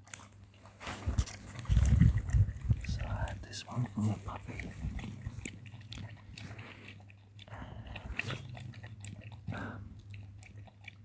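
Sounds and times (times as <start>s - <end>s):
animal chewing food: 0.0s - 11.0s
steady low hum: 0.0s - 11.0s.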